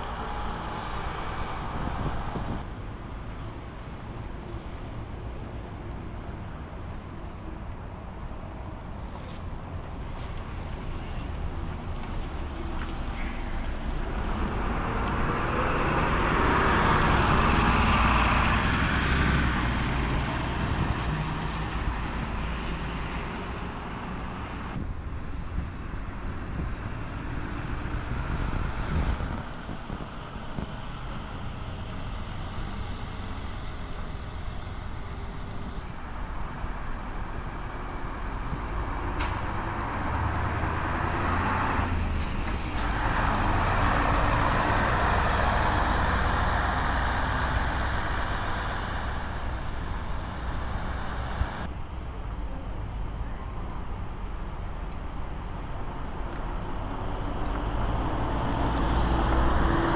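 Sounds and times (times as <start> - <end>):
diesel buses driving past: 0.0 - 59.9.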